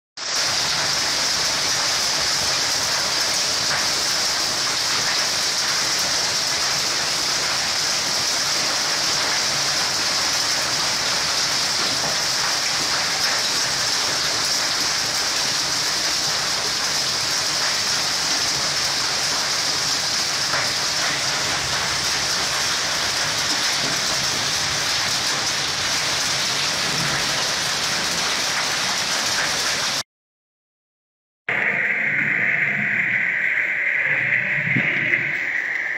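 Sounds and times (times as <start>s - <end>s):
heavy rain and hail: 0.2s - 30.0s.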